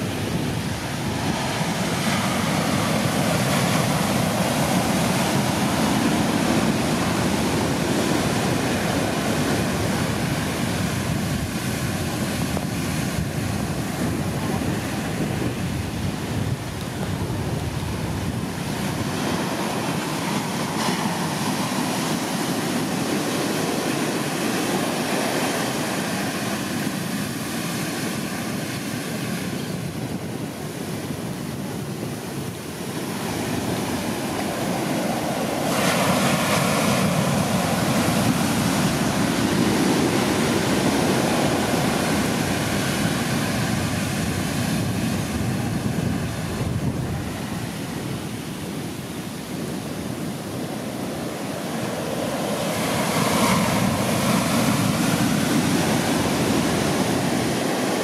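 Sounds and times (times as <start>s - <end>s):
surf breaking on sand: 0.0s - 58.0s.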